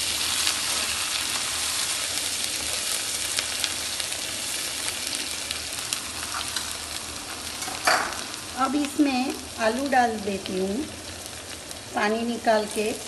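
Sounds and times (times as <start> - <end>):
onion sizzling in a wok: 0.0 - 13.0.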